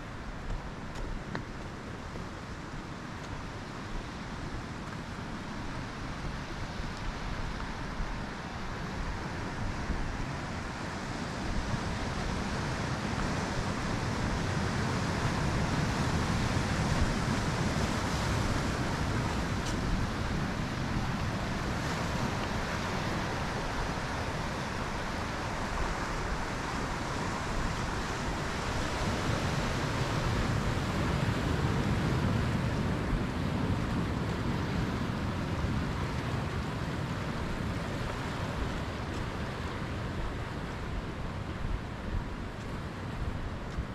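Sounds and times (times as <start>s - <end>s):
surf washing over rocky shore: 0.1s - 43.9s.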